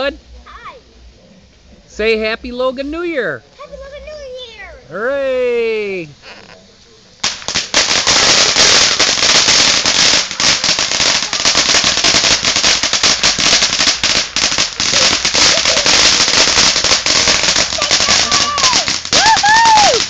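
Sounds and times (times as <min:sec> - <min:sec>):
firework crackling: 0:00.0 - 0:20.0.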